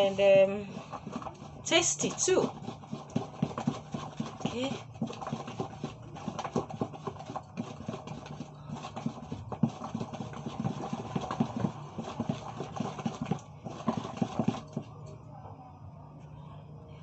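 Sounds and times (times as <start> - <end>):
wooden spoon beating batter: 0.0 - 15.0
steady low hum: 0.0 - 17.0.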